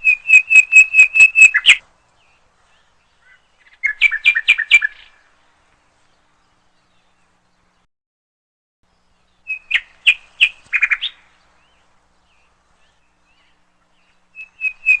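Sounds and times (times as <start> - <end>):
bird chirping: 0.0 - 7.9, 8.8 - 15.0.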